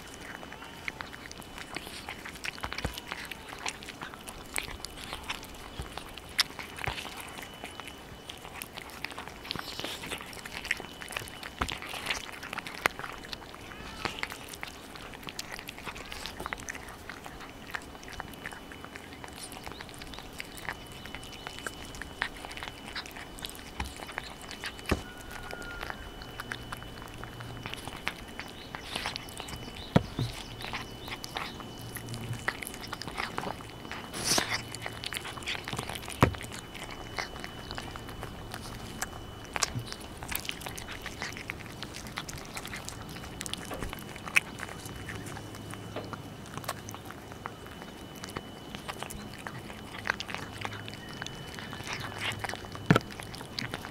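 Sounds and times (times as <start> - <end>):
cats chewing and lapping: 0.0 - 53.9
teeth and tongue clicks: 0.0 - 53.9.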